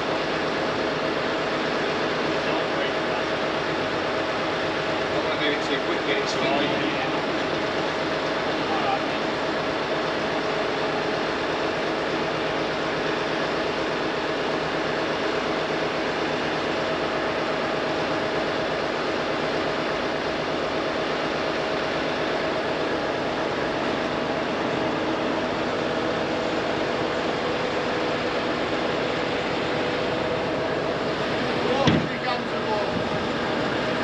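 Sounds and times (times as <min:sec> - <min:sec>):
machine engine running steadily: 0:00.0 - 0:34.0.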